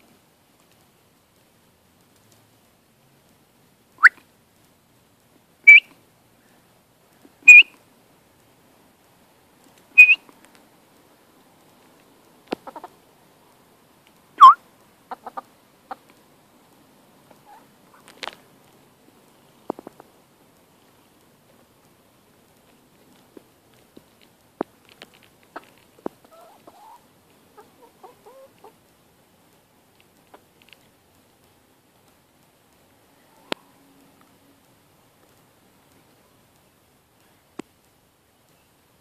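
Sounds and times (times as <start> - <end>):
faint clicks: 0.0 - 39.0.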